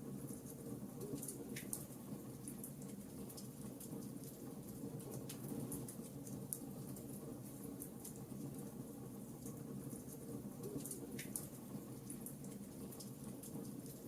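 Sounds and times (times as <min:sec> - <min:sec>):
low steady fire rumble: 0:00.0 - 0:14.0
wood fire crackling: 0:00.0 - 0:14.0.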